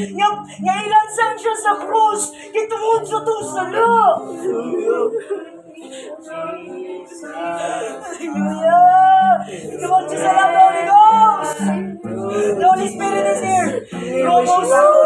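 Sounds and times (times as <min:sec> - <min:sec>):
voices singing slow melody: 0:00.0 - 0:15.0.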